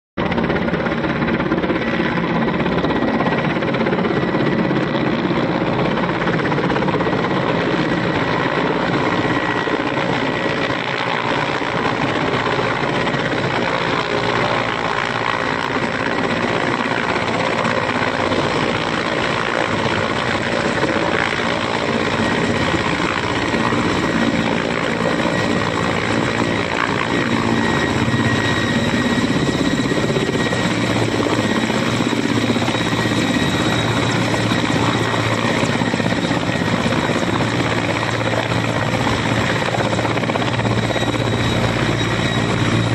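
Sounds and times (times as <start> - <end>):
helicopter rotor and turbine noise: 0.2 - 42.9.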